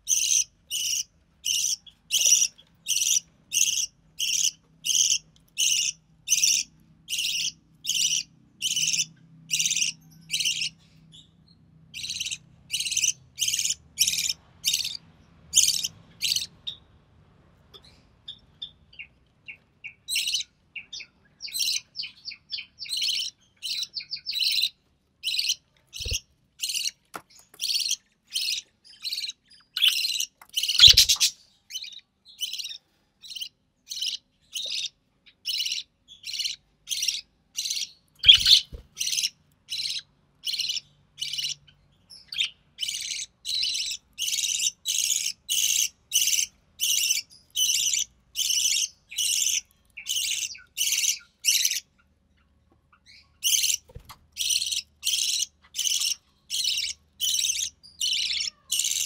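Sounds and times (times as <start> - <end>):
bird chick chirping: 0.0 - 16.9, 17.6 - 59.0.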